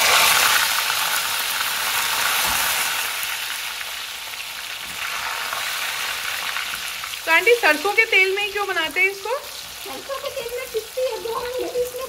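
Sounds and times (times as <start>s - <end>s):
lentils sizzling in hot oil: 0.0s - 12.0s.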